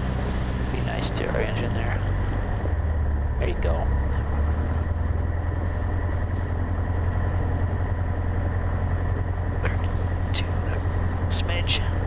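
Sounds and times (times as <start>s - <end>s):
aircraft engine idling: 0.0s - 12.0s.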